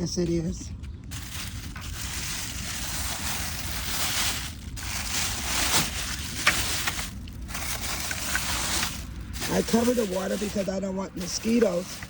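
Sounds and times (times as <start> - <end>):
plastic sheeting rustling: 1.1 - 12.0.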